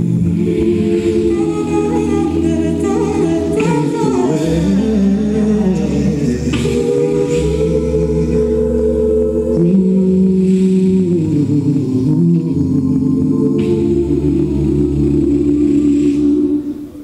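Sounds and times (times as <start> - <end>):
a cappella group singing: 0.0 - 17.0.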